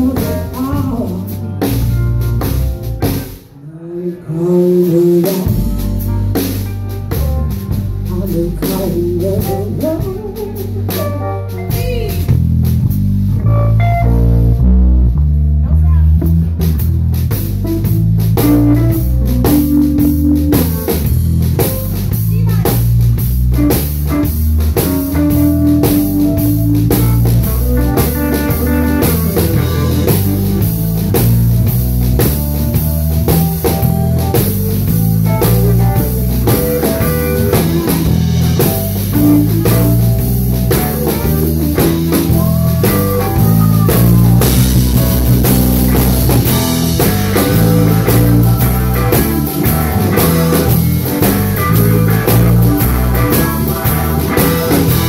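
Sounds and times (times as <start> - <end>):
drum kit steady beat: 0.0 - 3.6, 4.8 - 13.9, 16.1 - 55.0
electric bass line: 0.0 - 3.6, 4.3 - 55.0
bent electric guitar notes: 0.0 - 55.0.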